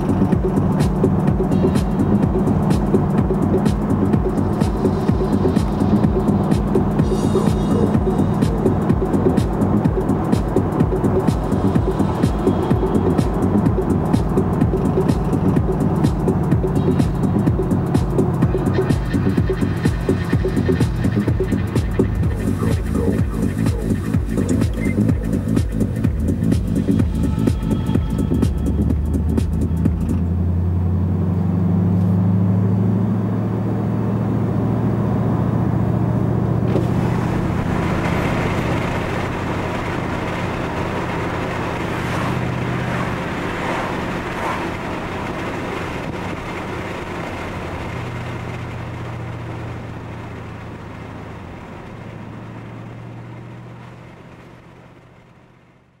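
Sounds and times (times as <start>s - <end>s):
car engine droning: 0.0s - 56.0s
tyre and road noise: 0.0s - 56.0s.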